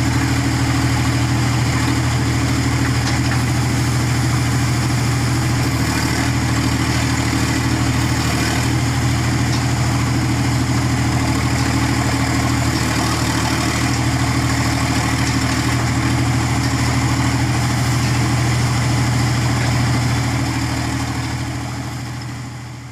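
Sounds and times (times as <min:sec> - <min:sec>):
backhoe loader diesel engine running: 0:00.0 - 0:22.9.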